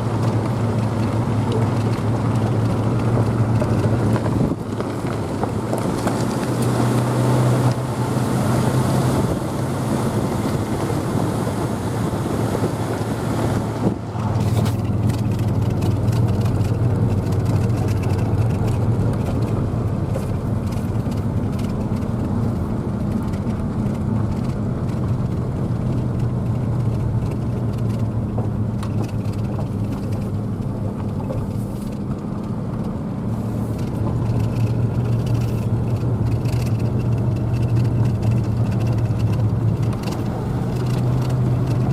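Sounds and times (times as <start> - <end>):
road and wind noise: 0.0 - 41.9
vehicle engine hum: 0.0 - 41.9.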